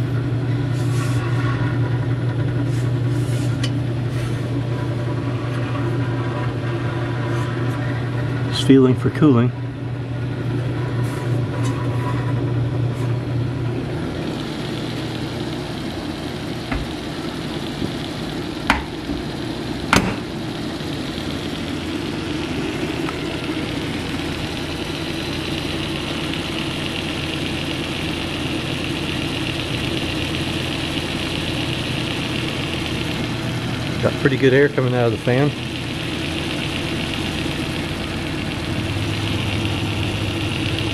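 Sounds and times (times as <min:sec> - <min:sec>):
refrigerator compressor humming: 0:00.0 - 0:40.9.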